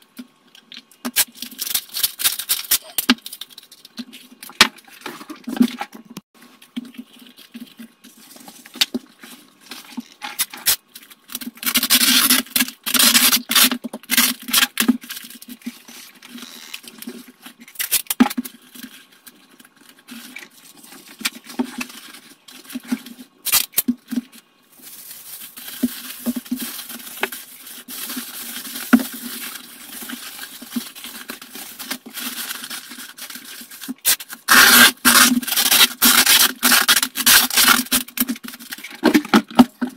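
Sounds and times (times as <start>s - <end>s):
paper and foil crinkling: 0.5s - 39.9s.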